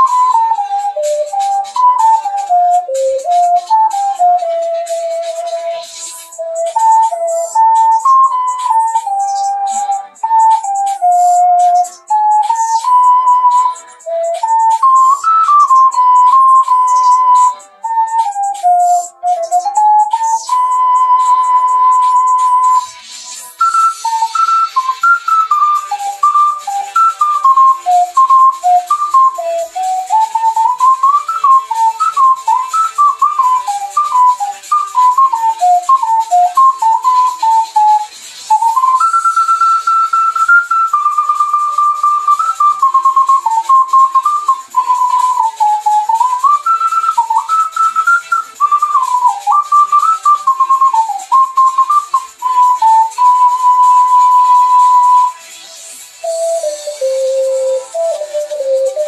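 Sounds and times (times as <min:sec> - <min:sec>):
faint accompaniment: 0:00.0 - 0:59.0
ocarina melody: 0:00.0 - 0:59.0.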